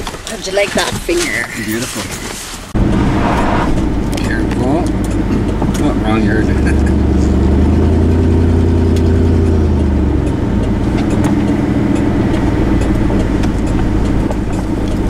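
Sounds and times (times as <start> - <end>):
road rumble: 0.0 - 15.0
car engine hum: 2.6 - 15.0.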